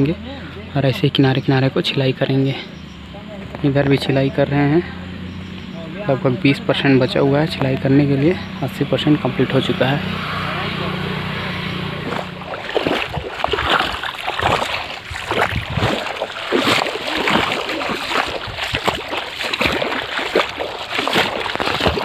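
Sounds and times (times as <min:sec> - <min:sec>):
muddy water splashing: 0:00.0 - 0:22.0.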